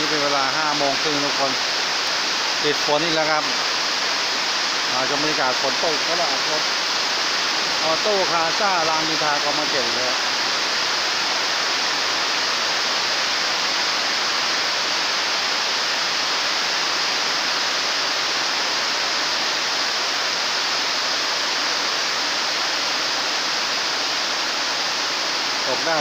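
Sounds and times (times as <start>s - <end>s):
heavy rain on metal roof: 0.0s - 26.0s.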